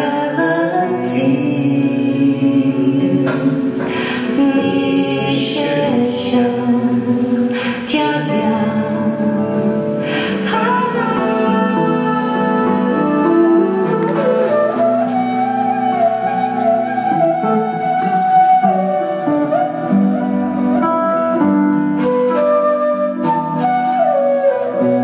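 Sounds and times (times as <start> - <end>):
flute playing slow melody: 0.9 - 25.0.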